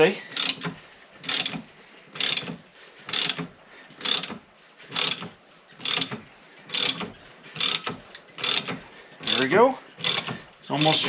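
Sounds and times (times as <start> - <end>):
socket ratchet clicking: 0.4 - 1.6, 2.2 - 11.0.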